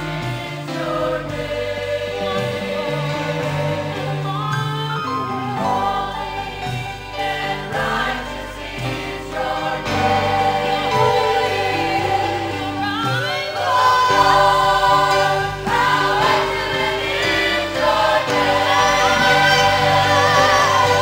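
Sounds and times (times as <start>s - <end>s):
drums: 0.0s - 21.0s
gospel choir singing: 0.0s - 21.0s.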